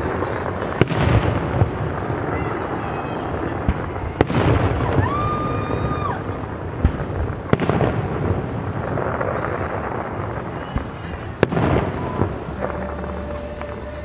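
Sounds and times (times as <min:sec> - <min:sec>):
fireworks booming: 0:00.0 - 0:14.0
sharp firework bangs: 0:00.0 - 0:14.0.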